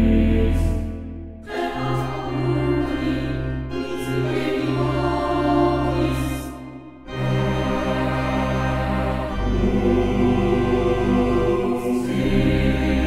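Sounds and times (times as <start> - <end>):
choir-like voices holding notes: 0.0 - 13.0.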